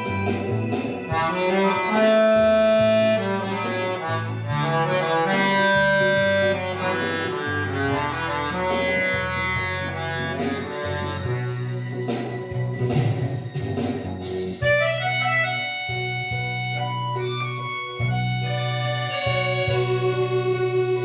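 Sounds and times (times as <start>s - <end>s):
solo accordion melody: 0.0s - 12.3s, 14.6s - 21.0s.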